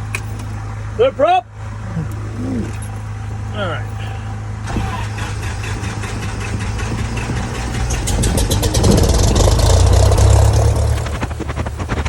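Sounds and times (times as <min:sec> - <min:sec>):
light aircraft engine starting: 0:01.7 - 0:12.0.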